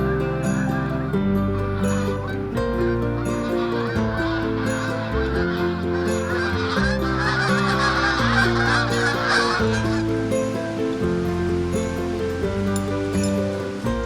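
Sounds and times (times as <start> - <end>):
geese honking: 0.0 - 13.8
soft background music: 0.0 - 14.0.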